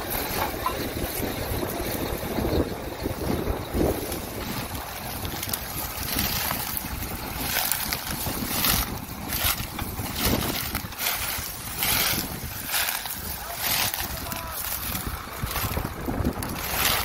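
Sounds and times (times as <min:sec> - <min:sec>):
tractor engine running: 0:00.0 - 0:17.0
wind buffeting microphone: 0:00.0 - 0:17.0.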